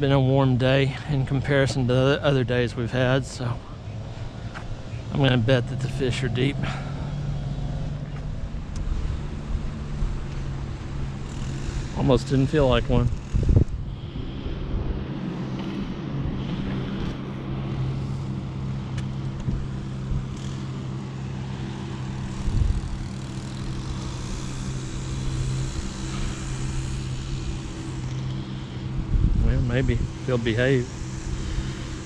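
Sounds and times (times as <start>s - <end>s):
motor humming: 0.6s - 32.0s.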